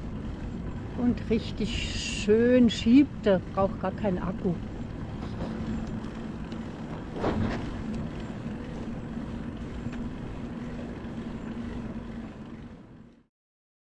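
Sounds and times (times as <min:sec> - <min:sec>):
wind rush and rolling noise: 0:00.0 - 0:13.0
steady low hum: 0:00.0 - 0:13.3.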